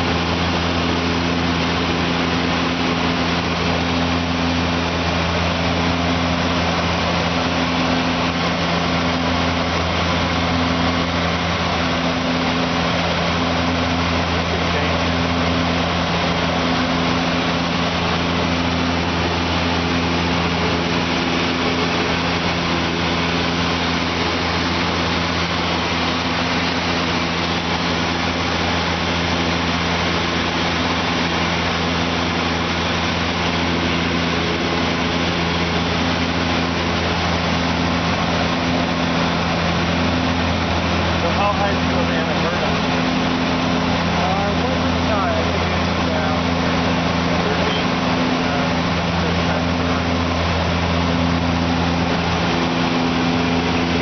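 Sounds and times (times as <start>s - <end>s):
turboprop plane engines droning: 0.0s - 54.0s.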